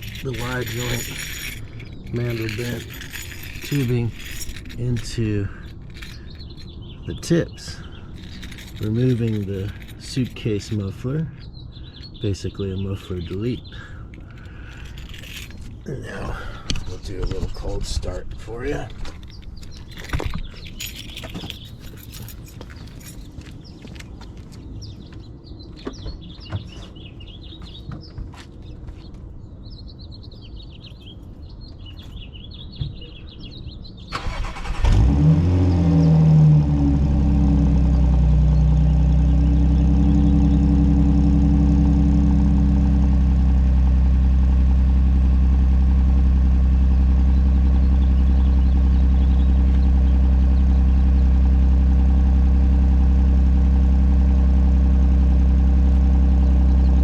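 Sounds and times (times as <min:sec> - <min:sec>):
car engine starting and idling: 0:00.0 - 0:22.8, 0:34.0 - 0:57.0
faint birds chirping: 0:00.0 - 0:57.0.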